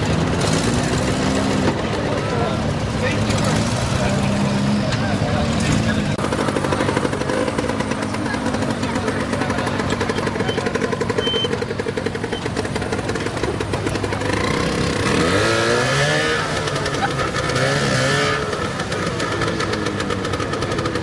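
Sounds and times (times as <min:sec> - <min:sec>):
small motorcycle engine revving: 0:00.0 - 0:21.0.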